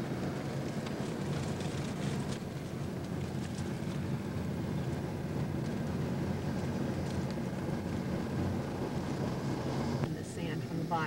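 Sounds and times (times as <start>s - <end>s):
vehicle rumble in motion: 0.0s - 11.0s.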